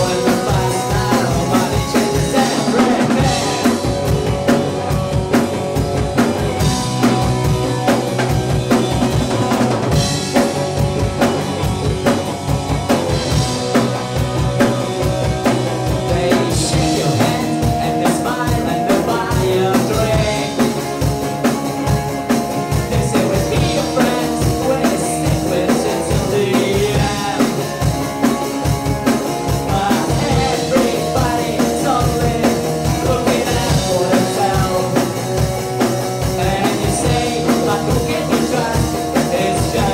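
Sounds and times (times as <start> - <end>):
bass guitar: 0.0 - 39.9
drum-kit beat: 0.0 - 39.9
electric guitar: 0.0 - 39.9.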